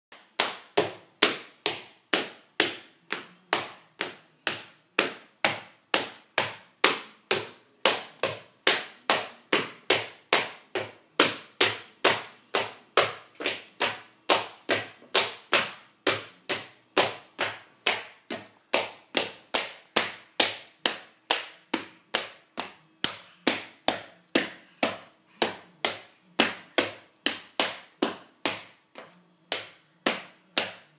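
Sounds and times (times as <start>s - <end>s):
hard-soled shoes tapping: 0.1s - 30.9s.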